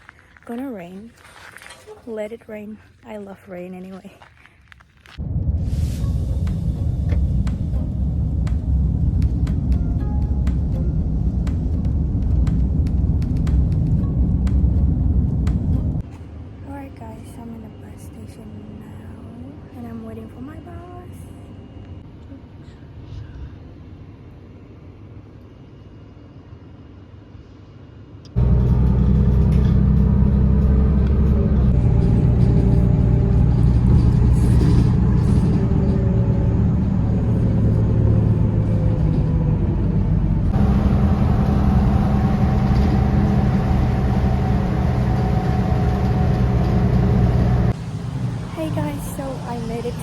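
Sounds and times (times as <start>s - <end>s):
bus engine and road rumble: 0.0s - 21.2s, 28.3s - 50.0s.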